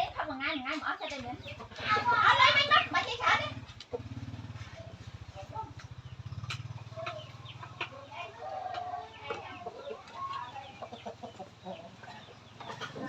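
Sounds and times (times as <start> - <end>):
poultry clucking: 0.0 - 13.0
small engine running: 1.2 - 13.0.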